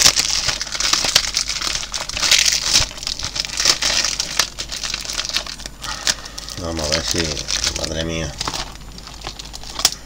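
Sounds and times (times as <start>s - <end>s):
plastic shrink-wrap crinkling: 0.0s - 10.0s.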